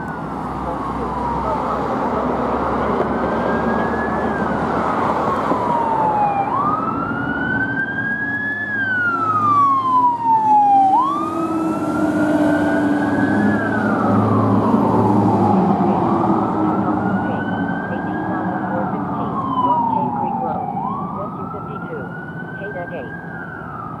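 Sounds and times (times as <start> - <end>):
fire engine siren wailing: 0.0 - 24.0
truck engine and tyre noise: 0.0 - 24.0.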